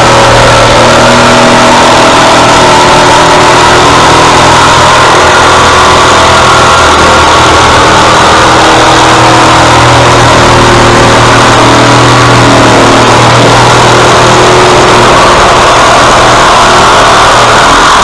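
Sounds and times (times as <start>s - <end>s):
small gasoline engine running: 0.0s - 18.0s.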